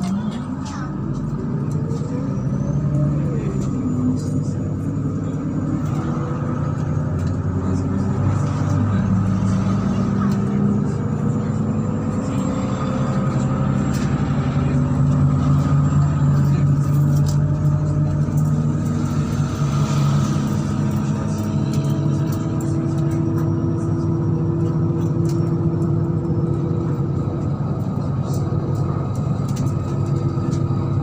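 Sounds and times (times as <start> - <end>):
bus engine hum: 0.0 - 31.0.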